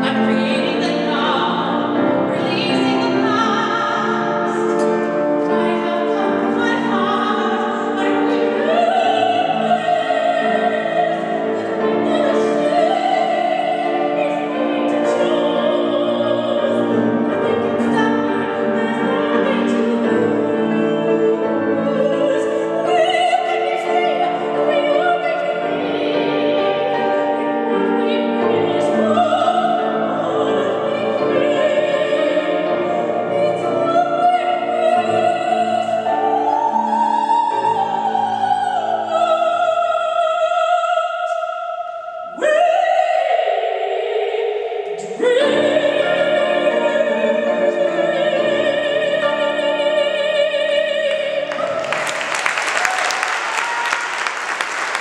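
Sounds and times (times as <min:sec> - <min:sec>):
woman singing soprano: 0:00.0 - 0:54.0
grand piano: 0:00.0 - 0:55.0.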